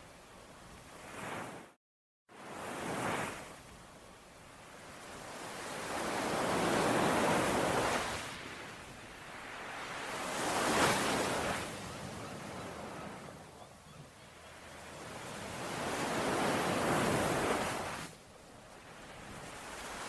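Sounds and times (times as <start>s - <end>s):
ocean waves washing onto shore: 0.0s - 20.0s.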